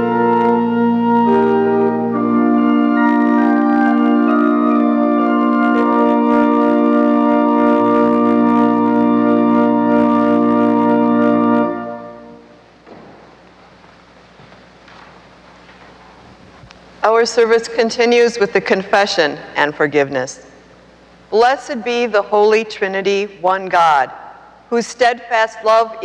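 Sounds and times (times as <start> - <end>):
pipe organ chords: 0.0 - 23.6.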